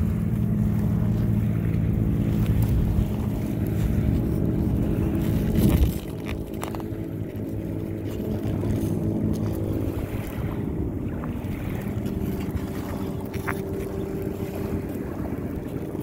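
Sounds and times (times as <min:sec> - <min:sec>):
low engine drone: 0:00.0 - 0:16.0
wind on microphone: 0:00.0 - 0:16.0.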